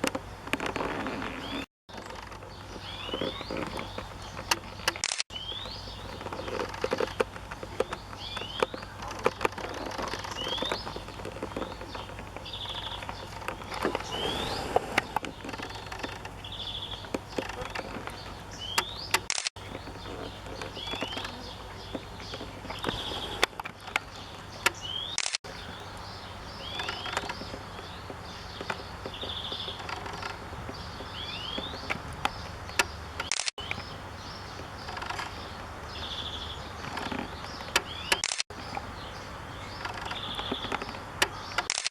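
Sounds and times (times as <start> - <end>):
songbirds singing: 0.0 - 41.9
sharp clicks: 3.1 - 33.9, 36.8 - 38.8, 39.7 - 41.9.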